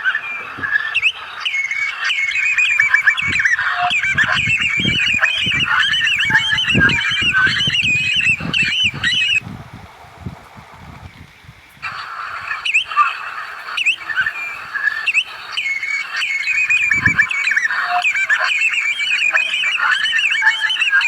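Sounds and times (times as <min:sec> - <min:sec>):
flock of birds calling: 0:00.0 - 0:09.4, 0:11.6 - 0:21.0.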